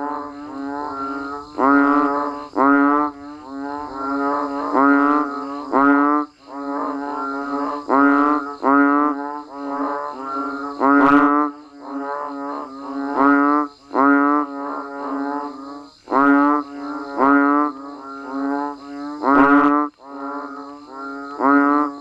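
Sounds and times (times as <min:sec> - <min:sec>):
frogs calling: 0:00.0 - 0:22.0.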